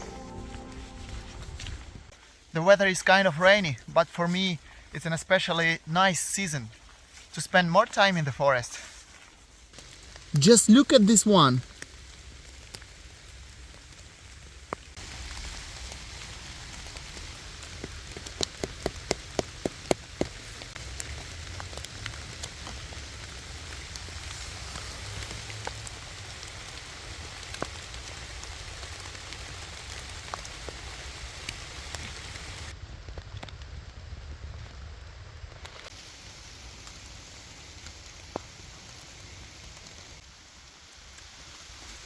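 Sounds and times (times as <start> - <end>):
rain pattering on forest: 0.0 - 42.0.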